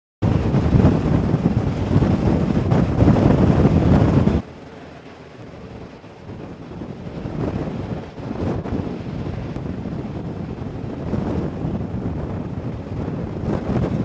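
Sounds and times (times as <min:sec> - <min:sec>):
strong wind buffeting microphone: 0:00.2 - 0:14.0
wind and sea rushing: 0:00.2 - 0:14.0.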